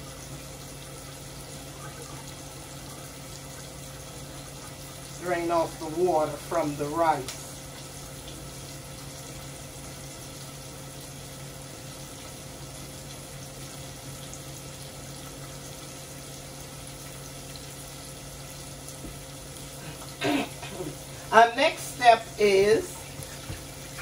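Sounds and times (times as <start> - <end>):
low steady hum: 0.0 - 24.0
water running at a sink: 0.0 - 24.0.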